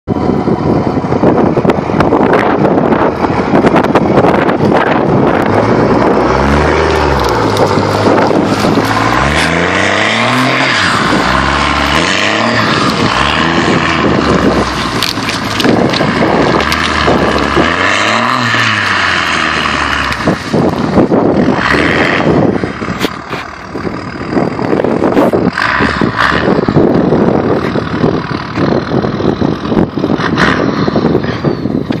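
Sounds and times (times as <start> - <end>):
diesel truck engine revving: 0.1 - 32.0
wheels spinning in snow: 0.2 - 32.0.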